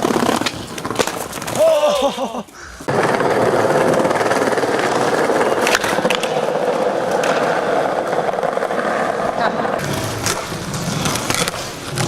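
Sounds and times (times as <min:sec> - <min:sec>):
skateboard wheels rolling: 0:00.0 - 0:12.0.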